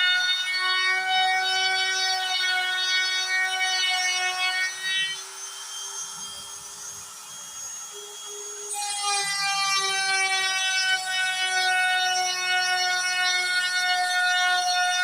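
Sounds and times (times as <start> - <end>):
router carving wood: 0.0 - 15.0
stepper motors whining: 0.0 - 15.0.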